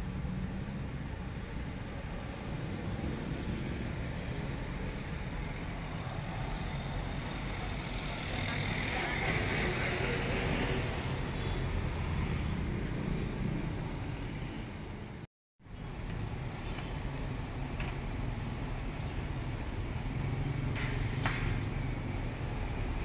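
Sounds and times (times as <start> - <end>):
street traffic rumble: 0.0 - 23.0.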